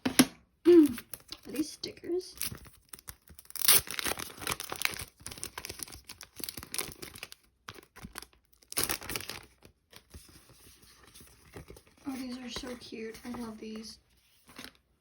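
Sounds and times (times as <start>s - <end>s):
packaging crinkling and tearing: 0.8s - 14.8s.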